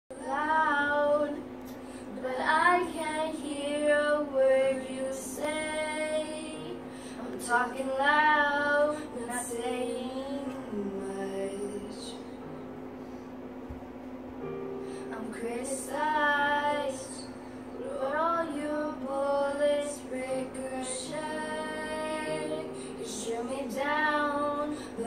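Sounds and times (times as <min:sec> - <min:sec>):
girl singing: 0:00.1 - 0:12.2, 0:15.1 - 0:25.0.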